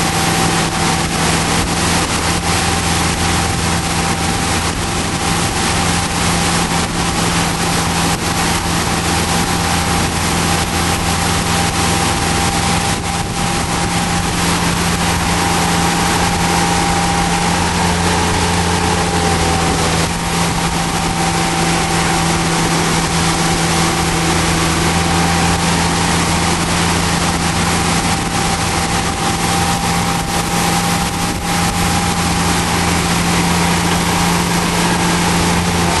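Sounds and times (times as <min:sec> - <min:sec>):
boat engine running: 0:00.0 - 0:36.0
rushing water and wind: 0:00.0 - 0:36.0.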